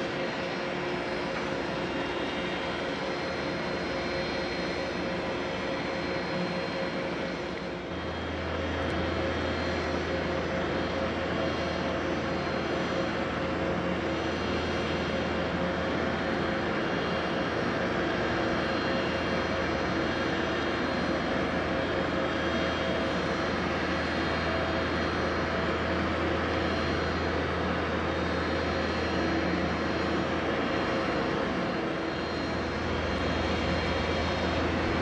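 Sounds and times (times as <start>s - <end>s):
ship engines droning: 0.0s - 35.0s.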